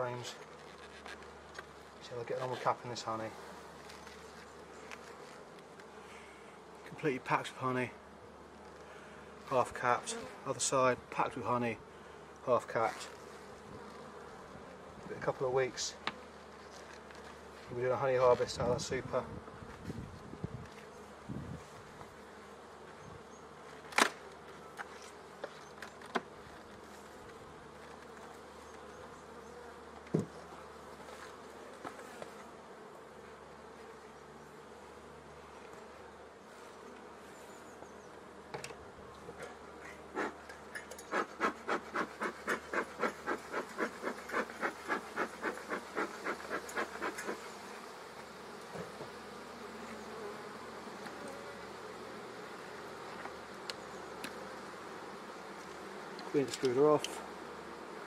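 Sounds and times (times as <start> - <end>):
bees humming in hive: 0.0 - 58.0.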